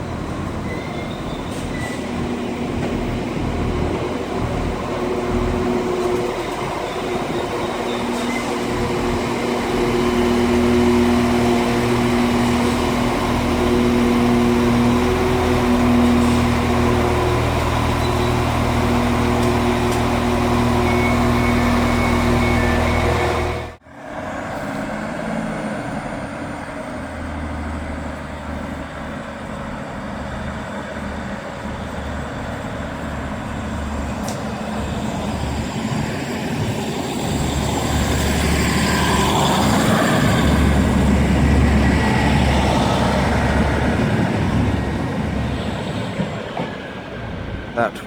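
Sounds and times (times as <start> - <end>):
diesel train engines pulling away: 0.0 - 48.0.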